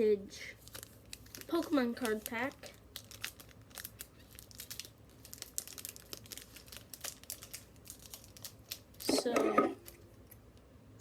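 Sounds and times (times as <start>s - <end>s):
foil wrapper crinkling: 0.6s - 10.0s.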